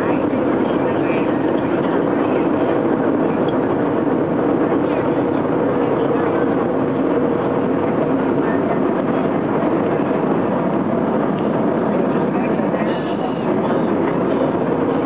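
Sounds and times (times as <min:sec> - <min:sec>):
airliner engines droning: 0:00.0 - 0:15.0
faint passenger voices: 0:00.0 - 0:15.0.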